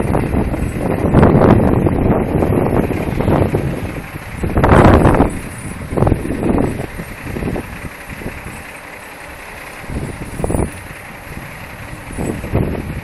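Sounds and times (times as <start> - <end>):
truck and car engines idling: 0.0 - 13.0.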